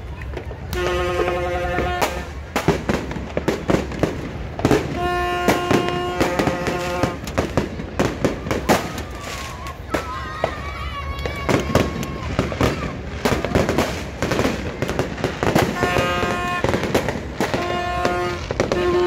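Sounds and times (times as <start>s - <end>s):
fireworks banging and cracking: 0.0s - 19.0s.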